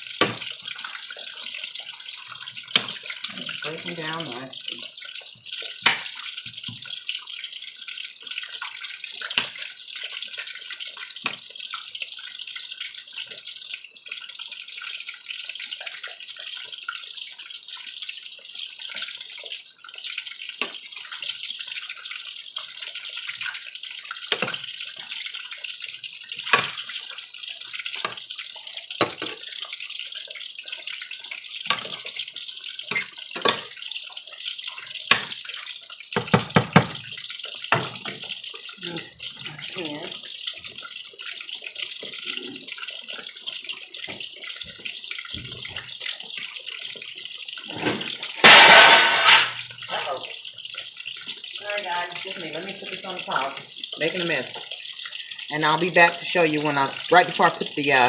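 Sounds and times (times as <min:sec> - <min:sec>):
oil sizzling in a frying pan: 0:00.0 - 0:58.0.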